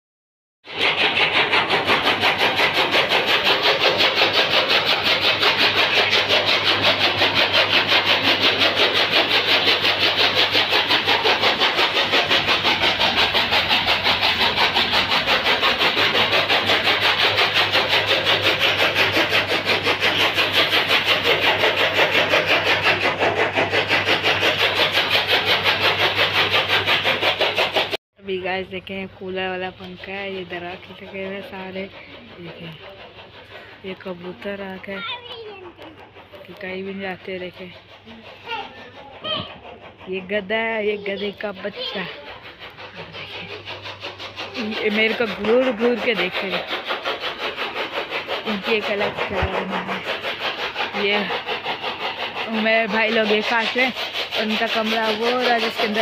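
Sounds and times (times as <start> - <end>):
engine running with pulsing beat: 0.7 - 56.0.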